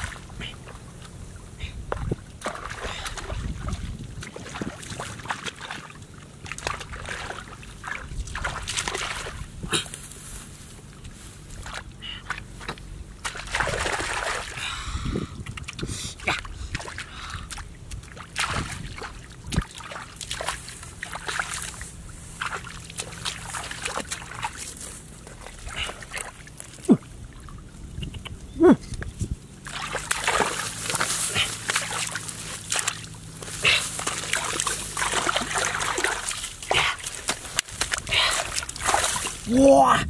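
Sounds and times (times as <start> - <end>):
hands splashing in muddy water: 1.9 - 9.9, 11.6 - 14.7, 15.4 - 27.5, 29.6 - 39.9.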